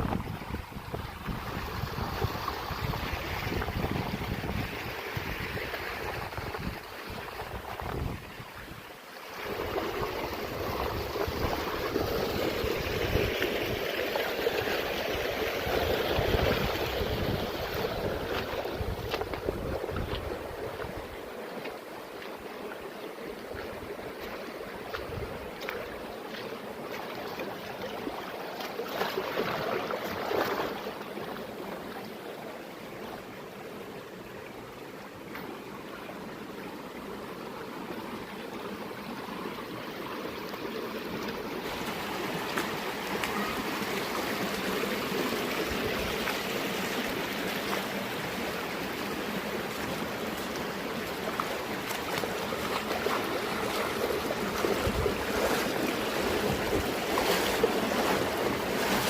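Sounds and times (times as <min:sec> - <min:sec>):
stream water flowing and splashing: 0:00.0 - 0:59.0.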